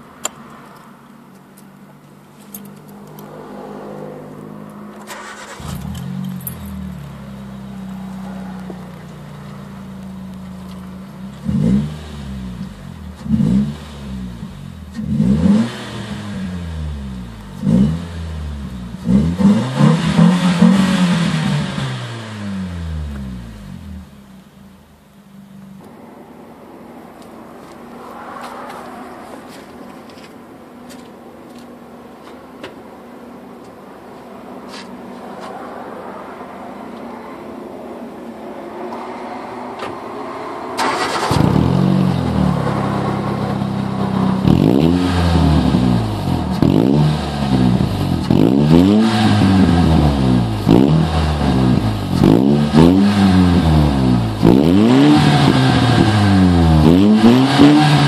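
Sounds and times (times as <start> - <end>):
car engine accelerating: 1.8 - 58.0.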